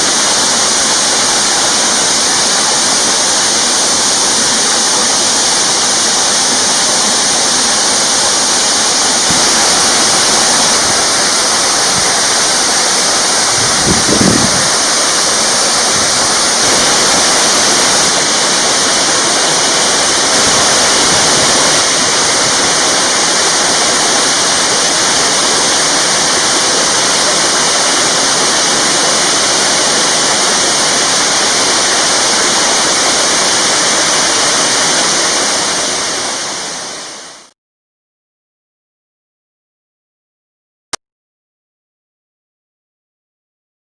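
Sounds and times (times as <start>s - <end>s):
waterfall rushing: 0.0s - 37.5s.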